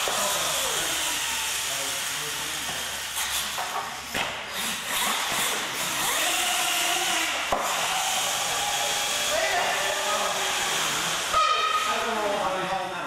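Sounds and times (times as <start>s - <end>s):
electric motors whining: 0.0s - 12.6s
steady background noise: 0.0s - 13.0s.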